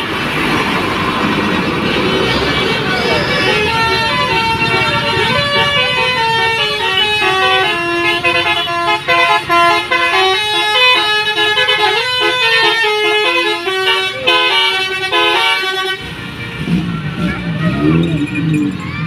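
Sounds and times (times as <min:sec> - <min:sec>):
bus engine running: 0:00.0 - 0:19.0
multi-tone bus horn melody: 0:01.6 - 0:18.4.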